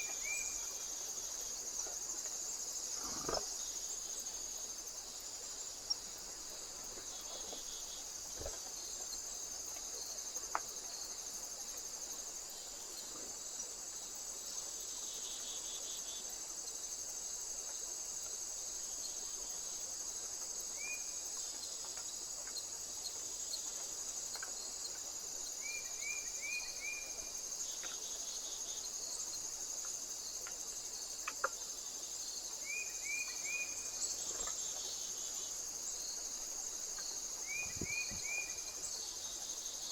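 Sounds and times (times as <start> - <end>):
crickets chorus: 0.0 - 39.9.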